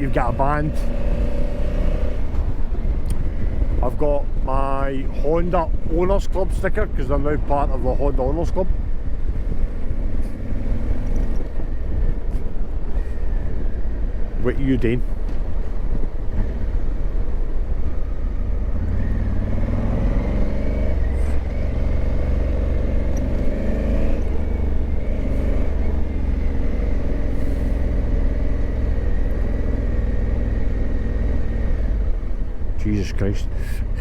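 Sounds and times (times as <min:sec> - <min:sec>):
motorcycle engine riding: 0:00.0 - 0:07.6, 0:08.5 - 0:34.0
wind rumble: 0:00.0 - 0:34.0.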